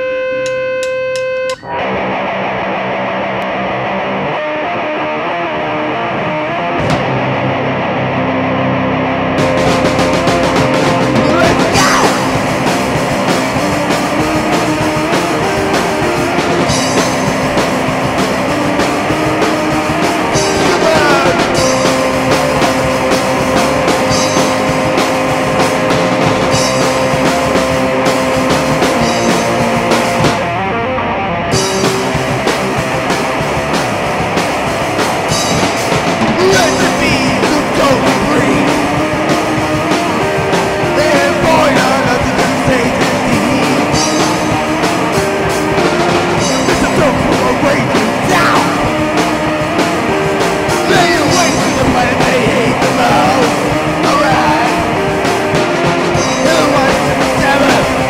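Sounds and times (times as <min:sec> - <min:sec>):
electric guitar riffs: 0:00.0 - 0:58.0
drum kit with cymbals: 0:09.4 - 0:30.5, 0:31.5 - 0:58.0.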